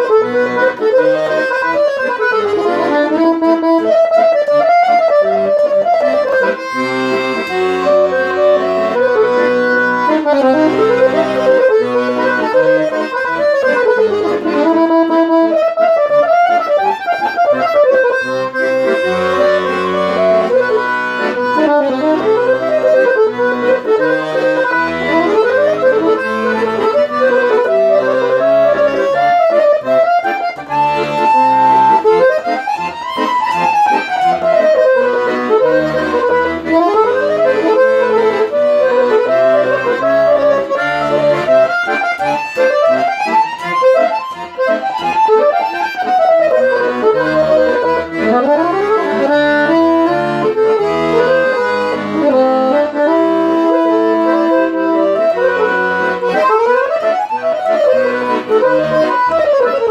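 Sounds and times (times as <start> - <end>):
piano accordion playing: 0.0 - 59.9.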